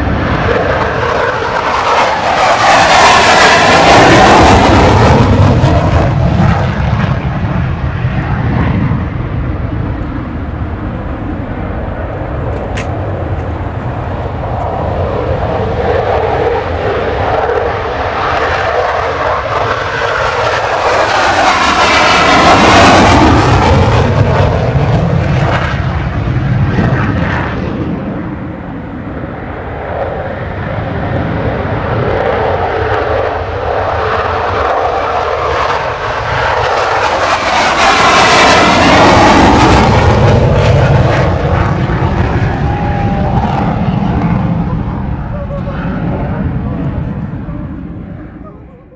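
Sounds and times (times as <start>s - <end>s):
jet roar: 0.0s - 48.9s.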